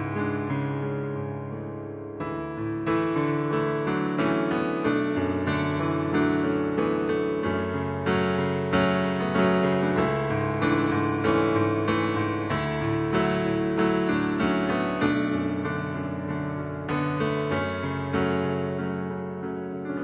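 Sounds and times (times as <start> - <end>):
slow gentle piano chords: 0.0 - 20.0.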